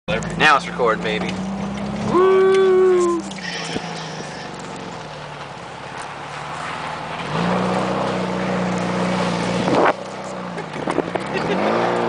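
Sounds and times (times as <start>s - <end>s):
tyres on dirt: 0.1s - 12.0s
van engine running under load: 0.1s - 12.0s.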